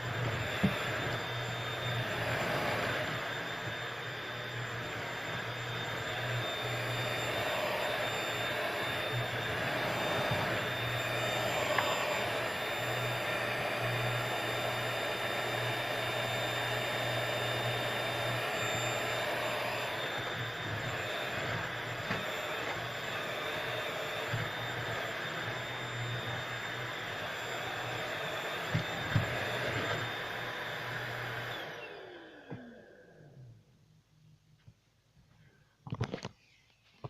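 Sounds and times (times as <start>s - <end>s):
stick vacuum cleaner running: 0.0s - 33.6s.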